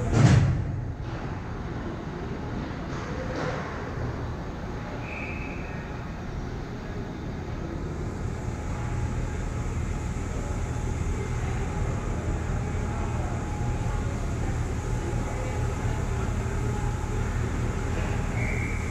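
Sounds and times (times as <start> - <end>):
low rumble and hiss of room noise: 0.0 - 18.9.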